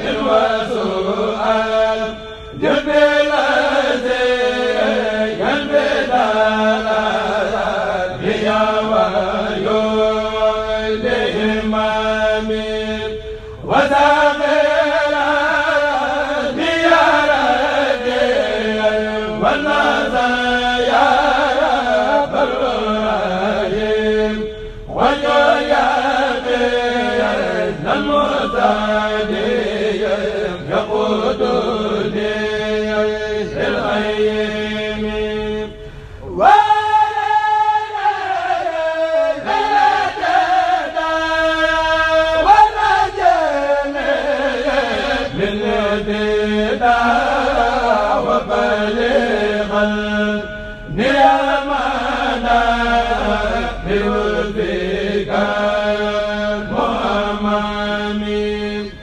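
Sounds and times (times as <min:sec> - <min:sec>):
amplified voices chanting: 0:00.0 - 0:59.0.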